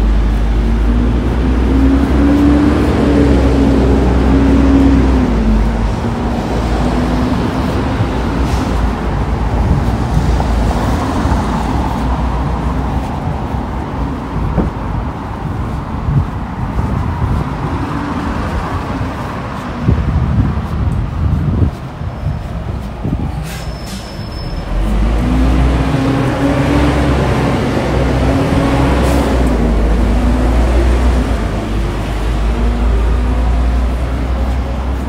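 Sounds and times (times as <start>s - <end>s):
bus engine hum: 0.0s - 35.0s
street traffic noise: 0.0s - 35.0s.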